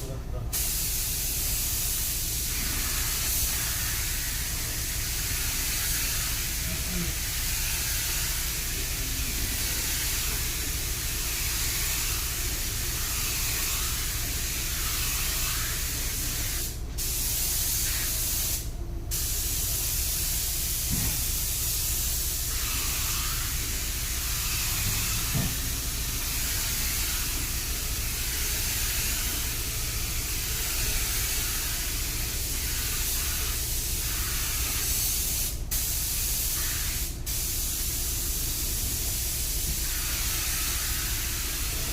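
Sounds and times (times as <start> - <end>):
air spray gun hissing: 0.5 - 41.9.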